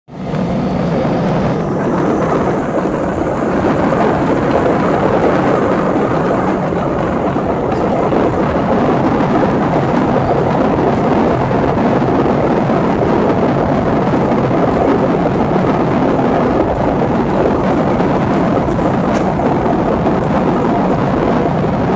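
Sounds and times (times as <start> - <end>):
airliner jet engine rush: 0.1 - 21.9.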